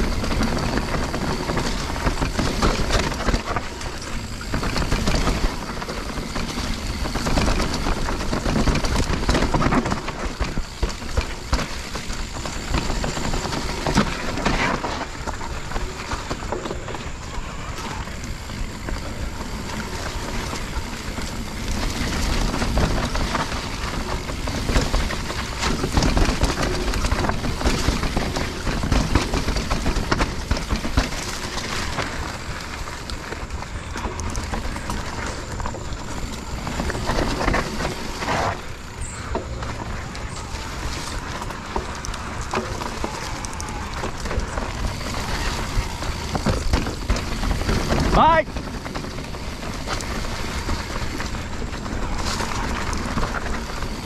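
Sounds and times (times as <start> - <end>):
bike rattling over bumps: 0.0 - 54.0
tyres on rough trail: 0.0 - 54.0.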